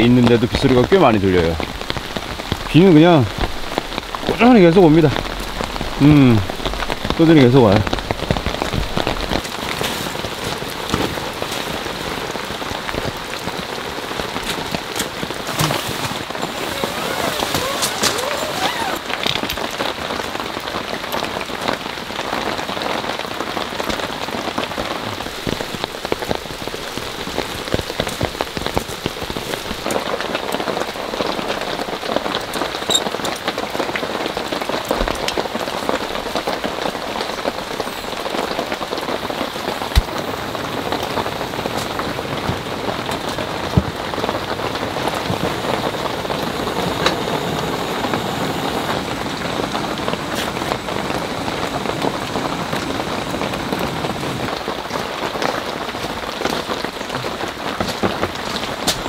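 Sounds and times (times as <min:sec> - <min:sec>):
rain on a tent: 0:00.0 - 0:59.0.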